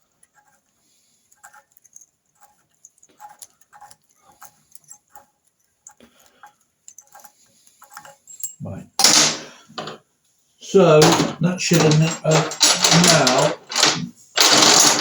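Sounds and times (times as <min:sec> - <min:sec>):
metal tools clicking and tapping: 0:01.4 - 0:10.0, 0:10.9 - 0:15.0.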